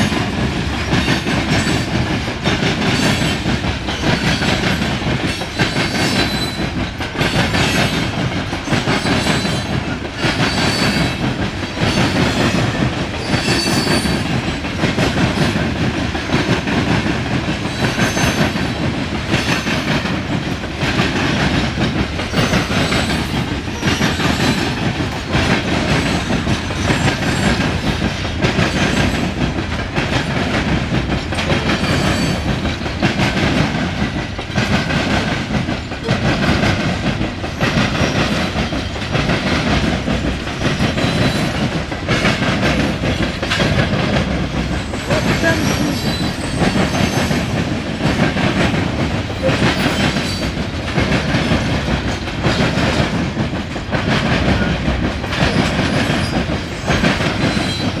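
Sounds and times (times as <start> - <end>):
freight train rumbling past: 0.0 - 58.0
wheels clacking over rail joints: 0.0 - 58.0.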